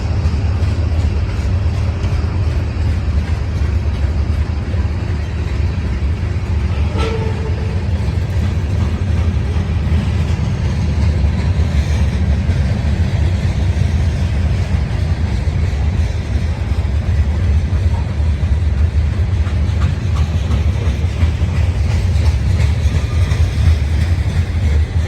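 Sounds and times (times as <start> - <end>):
train rolling past: 0.0 - 25.0.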